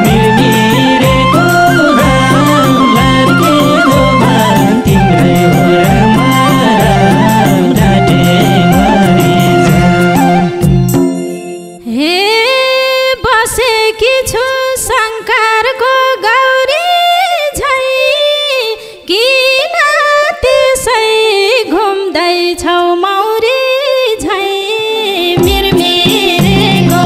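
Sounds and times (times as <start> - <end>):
person singing wordless melody: 0.0 - 10.9, 11.8 - 27.0.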